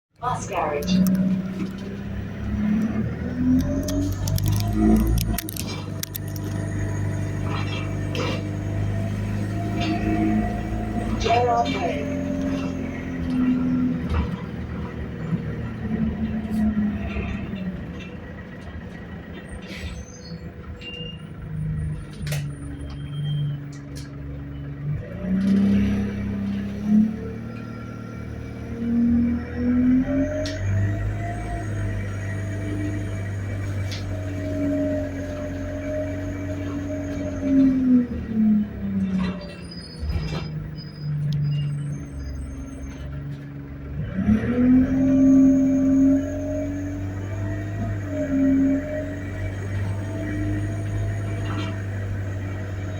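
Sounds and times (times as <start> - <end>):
bus engine humming: 0.1 - 52.9
rattles and clicks from bus body: 0.2 - 52.9.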